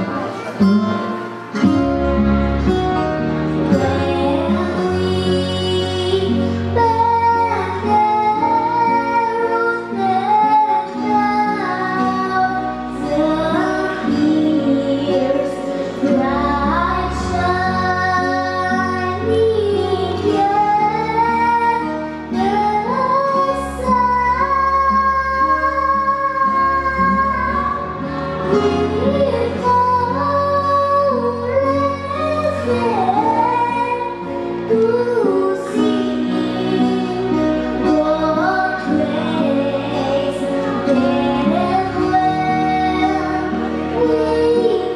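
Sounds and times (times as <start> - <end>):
instrumental accompaniment: 0.0 - 44.9
woman singing: 3.7 - 44.9.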